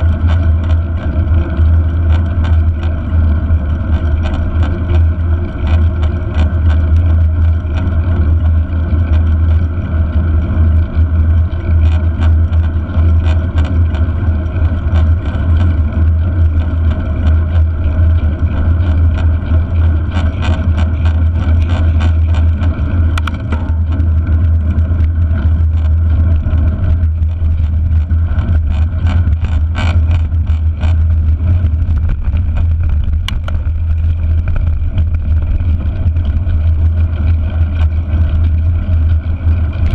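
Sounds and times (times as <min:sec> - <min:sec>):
bike clicks and rattles: 0:00.0 - 0:39.9
wind and tyre rumble: 0:00.0 - 0:39.9.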